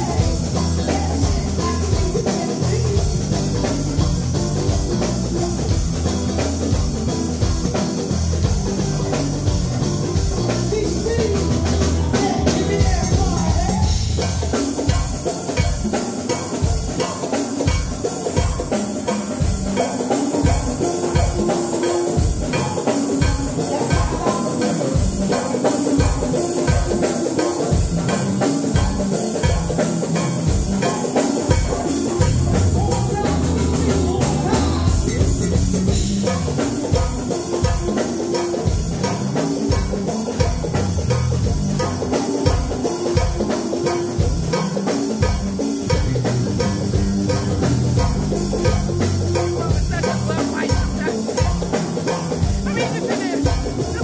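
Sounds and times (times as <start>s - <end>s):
congas: 0.0s - 54.0s
electric bass guitar: 0.0s - 54.0s
live funk band playing: 0.0s - 54.0s
steady kick drum beat: 0.0s - 54.0s.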